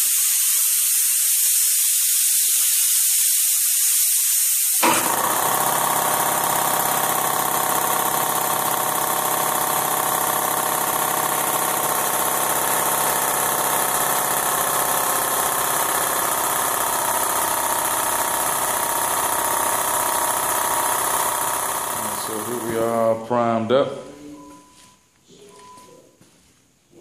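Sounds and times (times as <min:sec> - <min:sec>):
air compressor running: 0:00.0 - 0:23.7.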